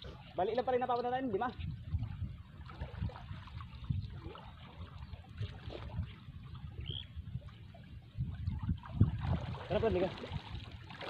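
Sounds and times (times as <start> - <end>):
water trickling and sloshing: 0.0 - 11.0.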